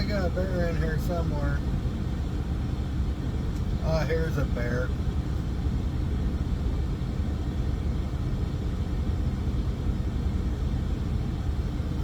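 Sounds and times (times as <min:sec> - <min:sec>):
low truck engine rumble: 0:00.0 - 0:12.0.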